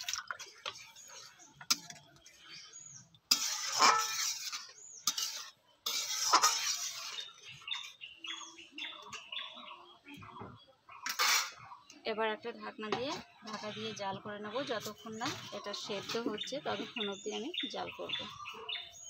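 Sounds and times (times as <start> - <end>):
metal spoon scraping a pot: 0.0 - 9.2, 11.0 - 11.6, 12.9 - 19.0.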